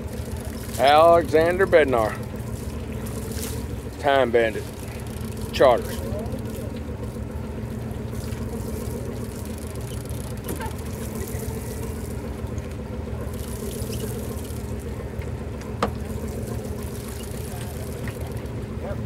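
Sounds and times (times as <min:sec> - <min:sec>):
boat engine idling: 0:00.0 - 0:19.0
water sloshing: 0:00.0 - 0:19.0.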